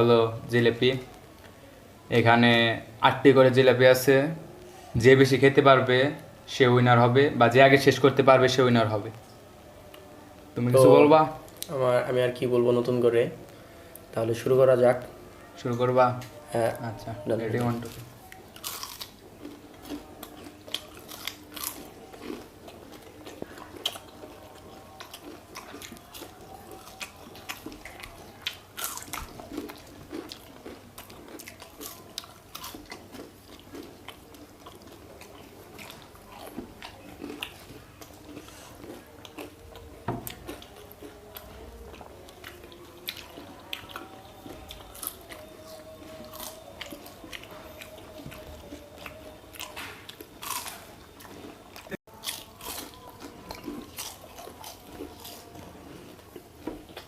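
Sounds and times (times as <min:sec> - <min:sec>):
people crunching and chewing: 0:00.0 - 0:57.0.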